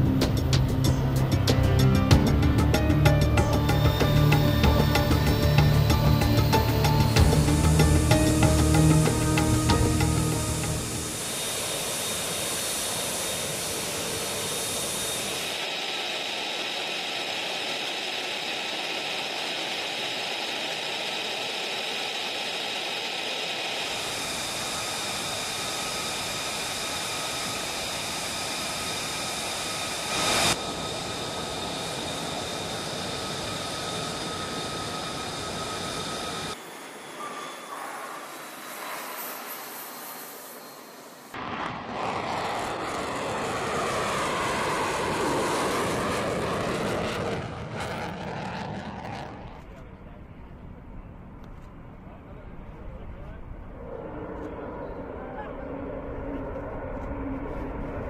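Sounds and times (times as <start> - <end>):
jet engine running: 0.0 - 58.0.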